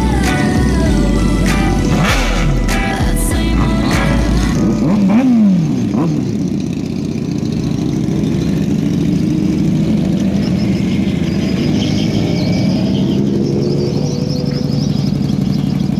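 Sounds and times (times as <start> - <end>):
motorcycle engines revving: 0.0 - 15.9.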